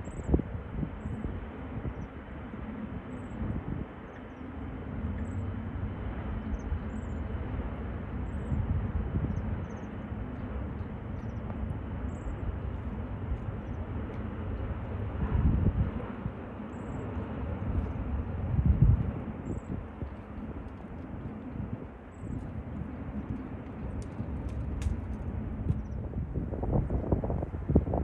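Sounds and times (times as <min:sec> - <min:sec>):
jet engines rumbling: 0:00.0 - 0:28.0.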